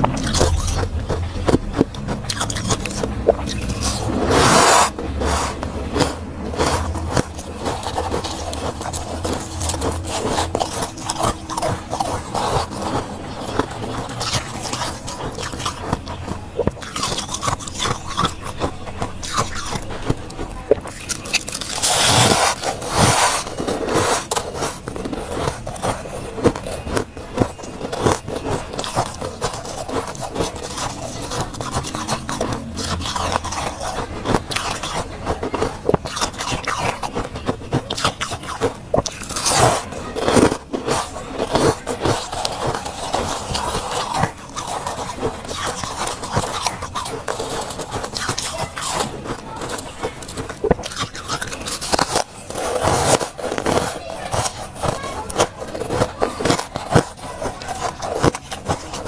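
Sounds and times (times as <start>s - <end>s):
fingers scraping crunchy frost: 0.0s - 59.0s.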